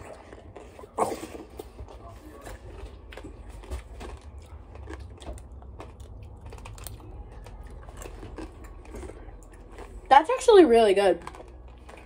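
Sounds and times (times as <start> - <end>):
hard sugar coating crunching: 0.0 - 12.0.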